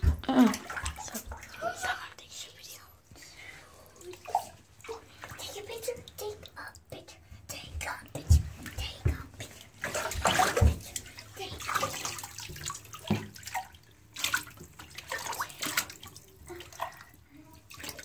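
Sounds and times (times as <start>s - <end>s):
bathwater sloshing and splashing: 0.0s - 2.5s, 3.1s - 18.0s.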